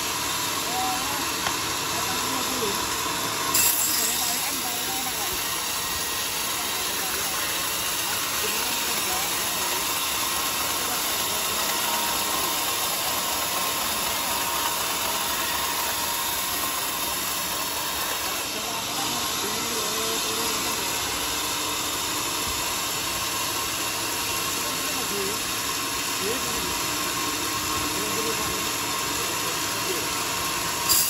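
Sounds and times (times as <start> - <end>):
sawmill machine running: 0.0 - 31.0.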